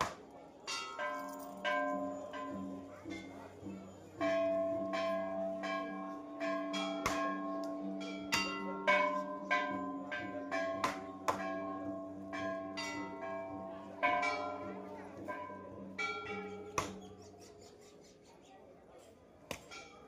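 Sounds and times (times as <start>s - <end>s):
metal bells struck: 0.7s - 17.4s.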